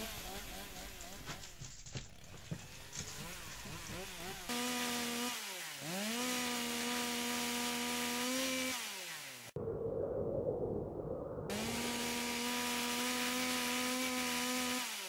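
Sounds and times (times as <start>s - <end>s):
chainsaw engine revving: 0.0s - 9.6s, 11.5s - 15.0s.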